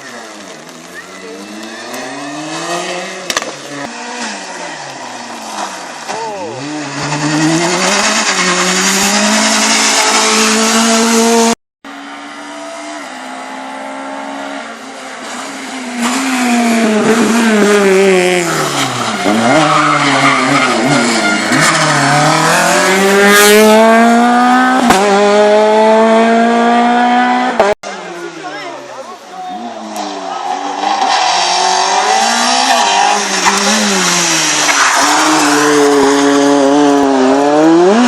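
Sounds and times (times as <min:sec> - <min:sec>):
rally car engines revving: 0:00.0 - 0:38.0.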